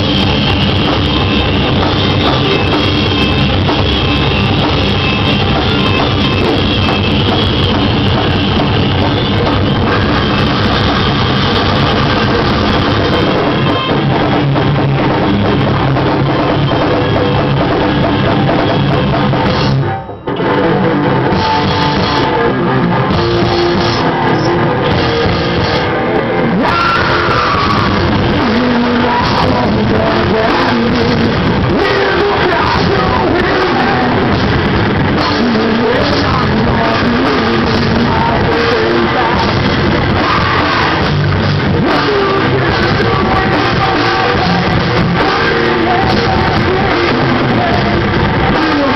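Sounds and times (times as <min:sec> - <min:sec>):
rock band playing live: 0:00.0 - 0:48.9.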